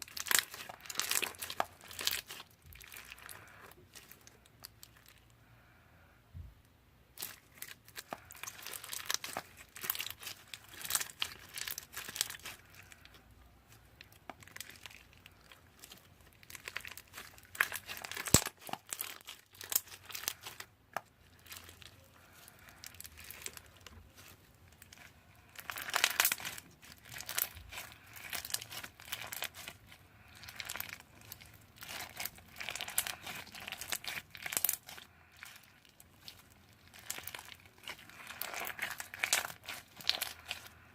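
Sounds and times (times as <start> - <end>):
slime squeezed with wet crackles: 0.0 - 5.2, 7.1 - 40.9.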